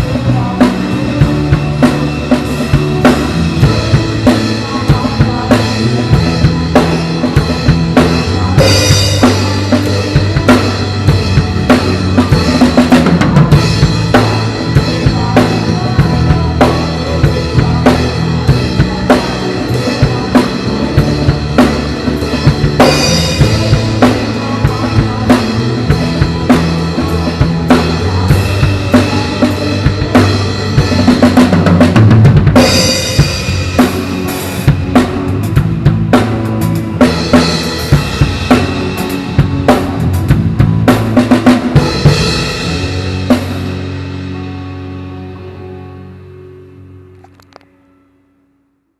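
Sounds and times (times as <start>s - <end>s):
drum kit beat: 0.0s - 44.7s
backing track music: 0.0s - 48.0s.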